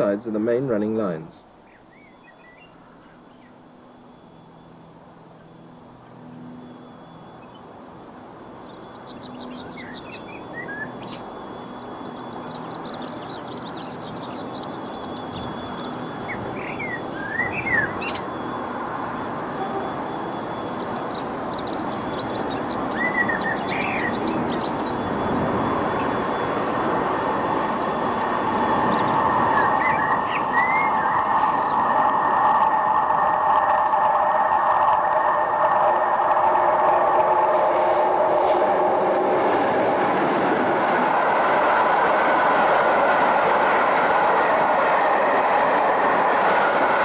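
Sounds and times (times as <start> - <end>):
birds singing: 0.0 - 38.0
diesel locomotives approaching: 0.0 - 47.0
steady whine: 0.0 - 47.0.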